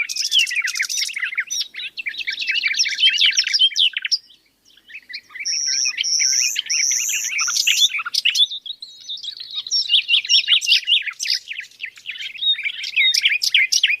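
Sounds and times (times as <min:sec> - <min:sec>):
high whistled bird notes: 0:00.0 - 0:14.0
small birds chirping: 0:00.0 - 0:14.0.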